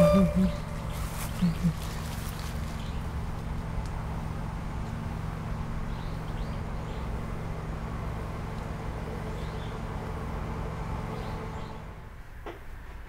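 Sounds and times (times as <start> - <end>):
small birds chirping: 0.0 - 10.3, 10.9 - 12.0
low mechanical hum: 0.0 - 13.0.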